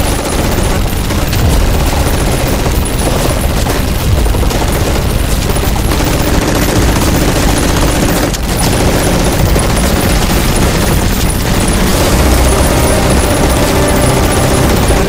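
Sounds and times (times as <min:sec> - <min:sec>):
rapid gunfire: 0:00.0 - 0:15.0.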